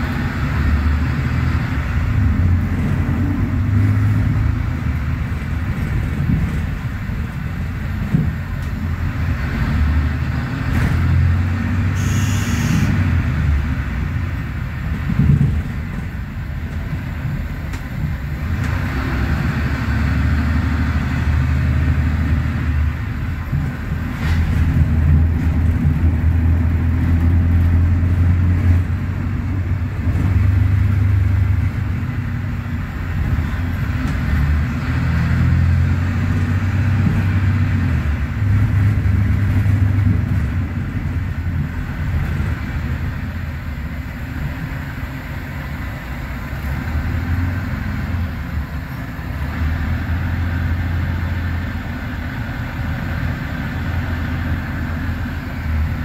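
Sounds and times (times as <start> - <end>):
bus diesel engine droning: 0.0 - 56.0
road rumble: 0.0 - 56.0.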